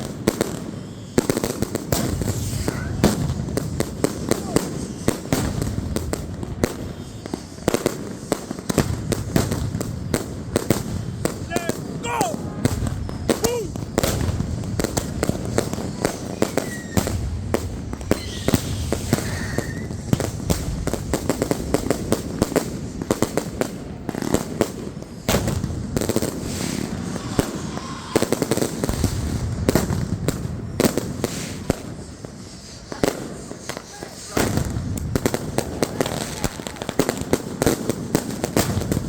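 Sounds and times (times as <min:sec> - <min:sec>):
firework whistles: 0:00.0 - 0:39.0
fireworks cracking and banging: 0:00.0 - 0:39.0.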